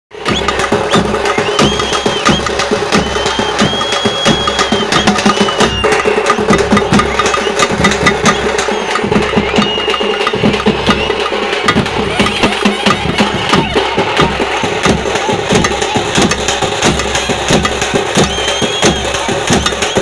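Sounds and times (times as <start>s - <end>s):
bass drum and small drum beating: 0.1s - 20.0s.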